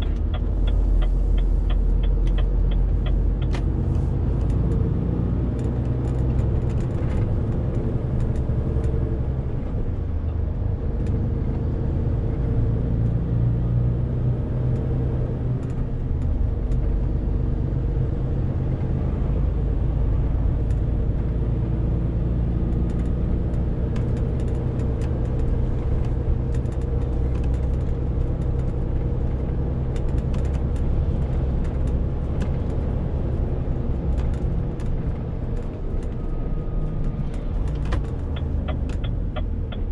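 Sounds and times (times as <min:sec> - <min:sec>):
diesel truck engine under load: 0:00.0 - 0:13.0, 0:14.1 - 0:39.9.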